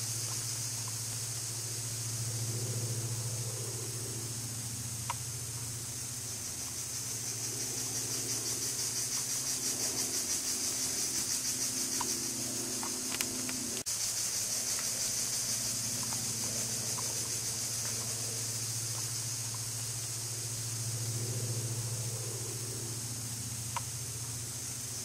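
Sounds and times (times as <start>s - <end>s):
insect chorus: 0.0s - 25.0s
low steady hum: 0.0s - 25.0s.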